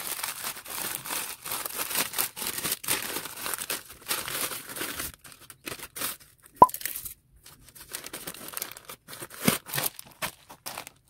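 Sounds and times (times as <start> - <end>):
bubble wrap and plastic bag crinkling: 0.0 - 11.0.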